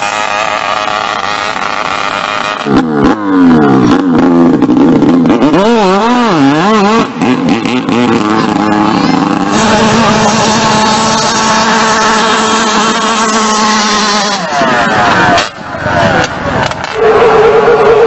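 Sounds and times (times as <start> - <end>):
small boat engine revving: 0.0 - 15.6.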